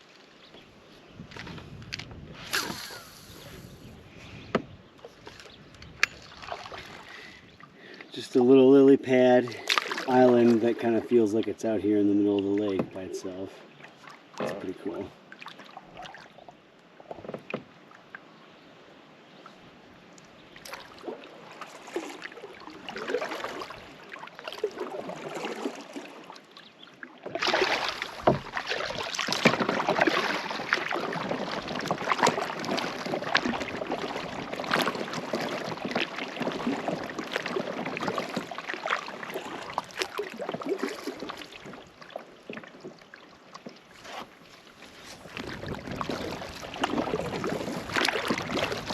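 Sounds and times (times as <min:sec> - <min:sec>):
canoe paddle splashing water: 0:01.3 - 0:48.9.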